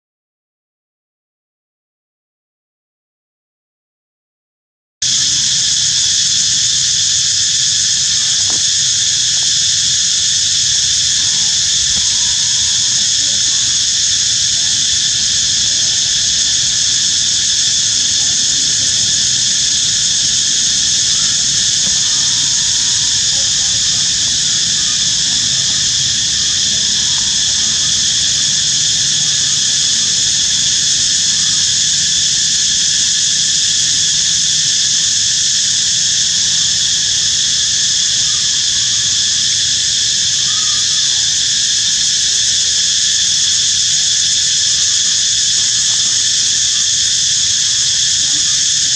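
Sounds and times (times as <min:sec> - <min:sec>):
insects droning: 0:05.0 - 0:48.9.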